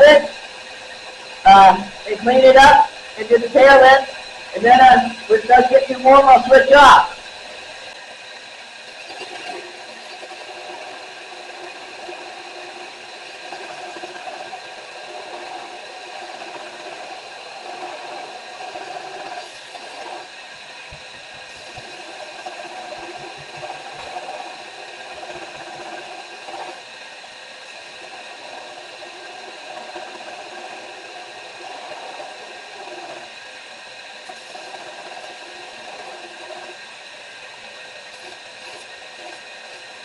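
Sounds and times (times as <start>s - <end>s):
electric grinder running: 0.0s - 40.0s.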